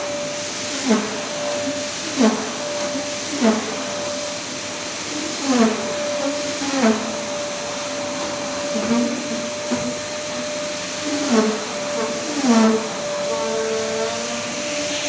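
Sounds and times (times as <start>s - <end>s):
floor machine motor whining: 0.0s - 15.0s.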